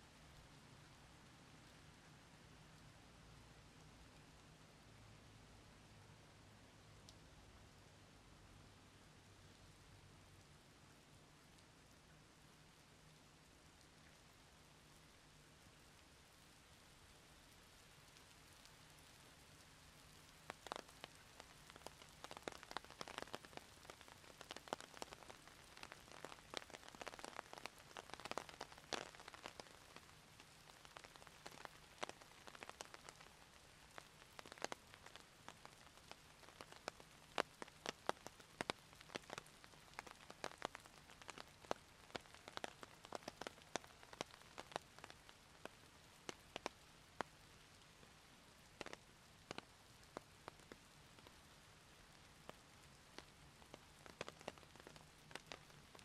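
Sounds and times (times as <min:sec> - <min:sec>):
faint rain hiss: 0:00.0 - 0:56.0
raindrops ticking: 0:05.6 - 0:07.8, 0:09.2 - 0:56.0.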